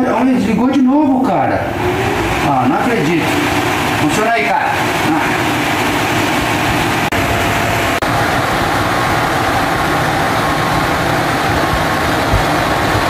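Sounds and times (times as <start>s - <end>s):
desk fan whirring: 0.0s - 13.0s
faint motor hum: 0.0s - 13.0s.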